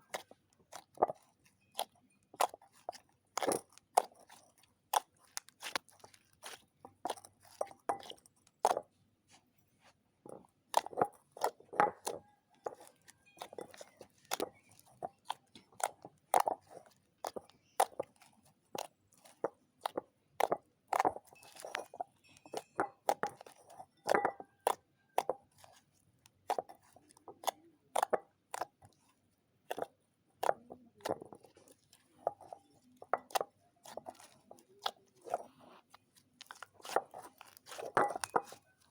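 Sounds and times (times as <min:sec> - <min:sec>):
slime popping and crackling: 0:00.0 - 0:08.7, 0:10.7 - 0:38.9.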